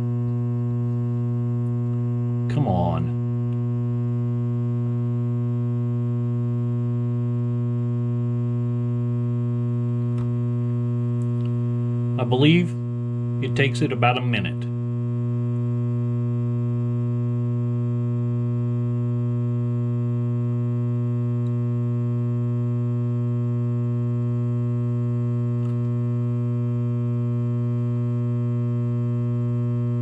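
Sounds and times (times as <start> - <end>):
furnace humming: 0.0 - 30.0.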